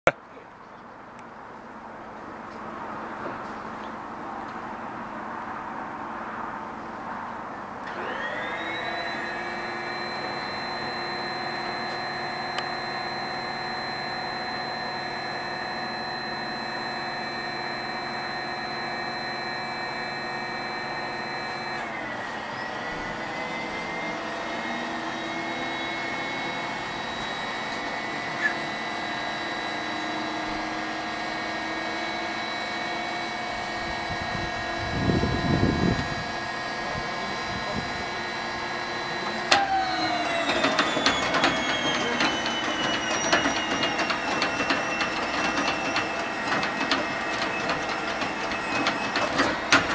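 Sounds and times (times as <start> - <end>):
engine starter whining: 7.8 - 49.9.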